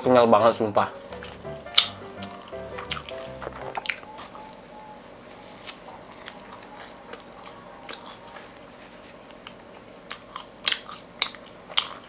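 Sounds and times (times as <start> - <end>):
chewing fried dough: 1.0 - 12.0.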